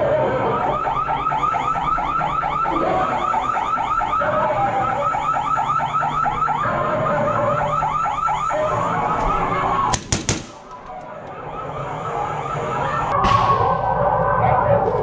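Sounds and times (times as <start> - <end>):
warbling electronic alarm: 0.0 - 9.9, 10.6 - 15.0.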